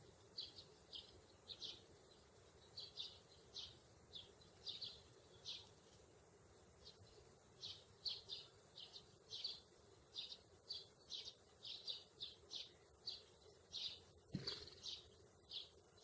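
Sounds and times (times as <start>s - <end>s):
sparrow chirping: 0.0s - 16.0s.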